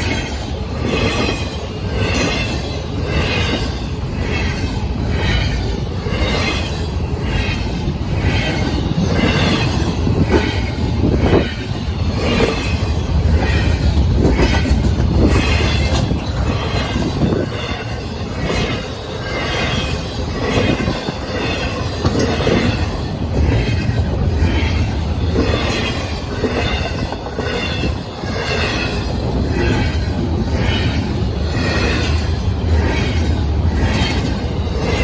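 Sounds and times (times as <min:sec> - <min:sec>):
freight train wheels on rails: 0:00.0 - 0:35.0.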